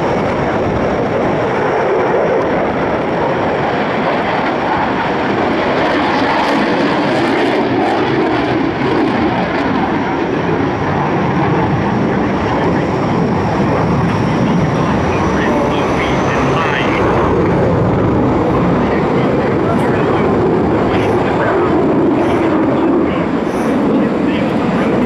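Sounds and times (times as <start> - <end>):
airplane engine rushing: 0.0 - 25.0.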